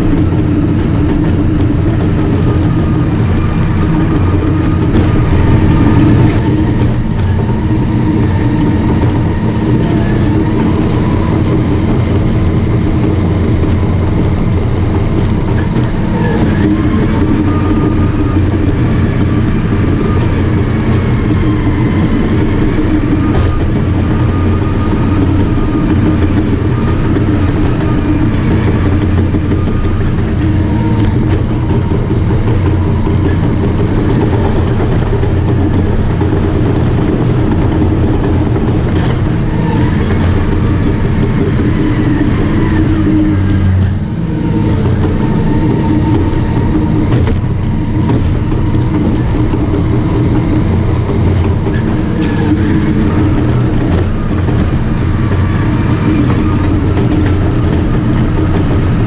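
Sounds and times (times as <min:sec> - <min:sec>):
bulldozer diesel engine working: 0:00.0 - 0:59.0.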